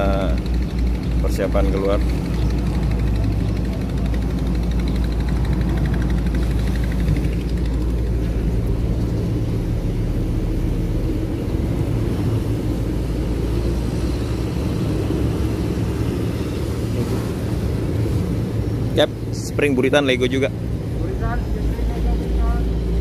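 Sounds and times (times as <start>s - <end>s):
ship diesel engines humming: 0.0s - 23.0s.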